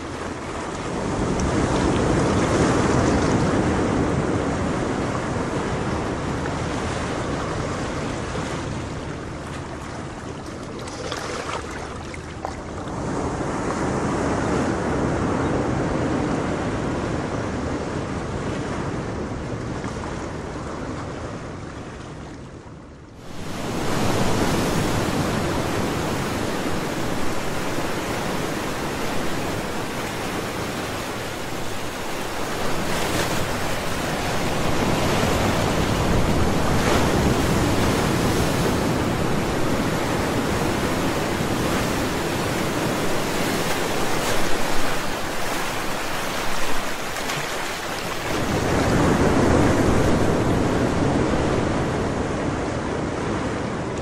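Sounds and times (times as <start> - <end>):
ocean waves breaking: 0.0 - 22.4, 23.2 - 54.0.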